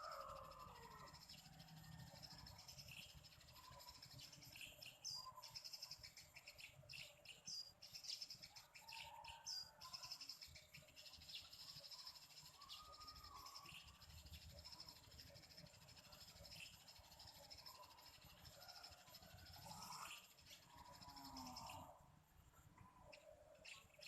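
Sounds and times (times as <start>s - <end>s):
faint sparrows chirping: 0.0s - 24.0s.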